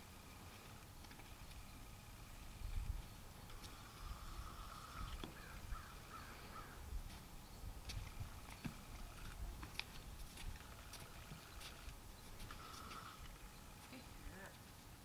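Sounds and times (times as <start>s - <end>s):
distant bird calling: 0.0s - 14.6s.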